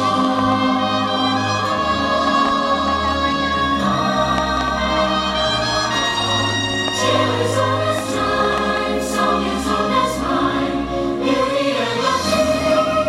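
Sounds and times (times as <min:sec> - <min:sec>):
choir singing sustained notes: 0:00.0 - 0:13.0
instrumental accompaniment: 0:00.0 - 0:13.0.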